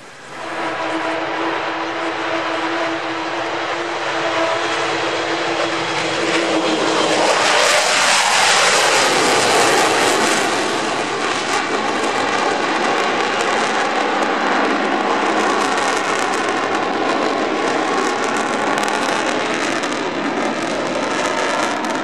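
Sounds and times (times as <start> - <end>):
jet aircraft roar: 0.0 - 22.0.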